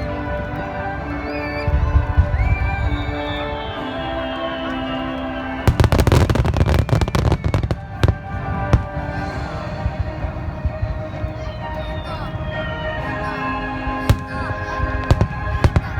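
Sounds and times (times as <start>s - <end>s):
fireworks bangs and crackles: 0.0s - 15.9s
music: 0.0s - 15.9s.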